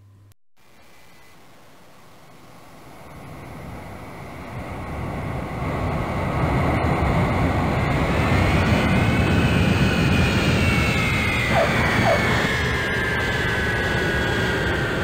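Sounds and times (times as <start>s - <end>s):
high turbine whine: 0.6s - 15.0s
jet aircraft rumble: 2.9s - 15.0s.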